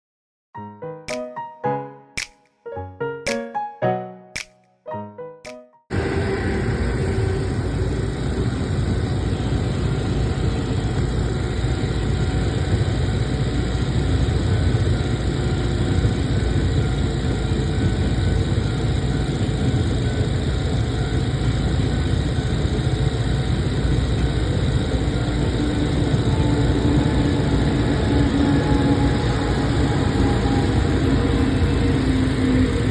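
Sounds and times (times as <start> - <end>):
train wheels rumbling on rail: 5.9 - 32.9.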